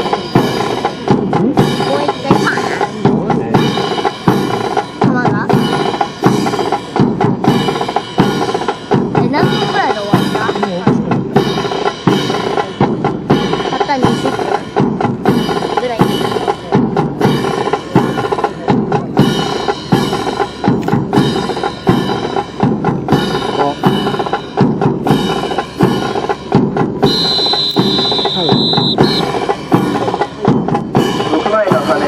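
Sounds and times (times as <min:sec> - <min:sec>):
brass band playing a march: 0:00.0 - 0:14.6, 0:19.2 - 0:32.0
drum beat: 0:00.0 - 0:32.0.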